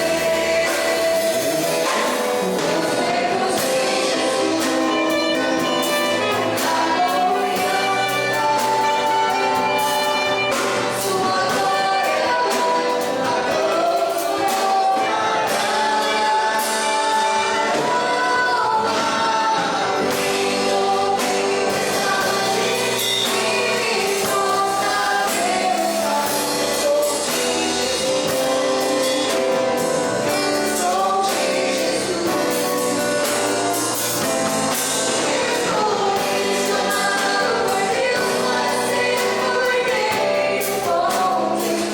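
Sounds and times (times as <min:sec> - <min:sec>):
gospel song with group singing: 0:00.0 - 0:41.9.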